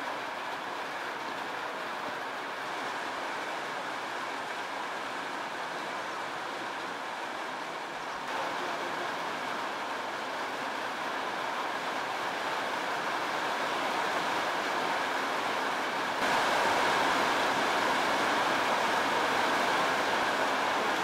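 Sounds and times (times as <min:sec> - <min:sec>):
torrential rain pouring: 0:00.0 - 0:21.0.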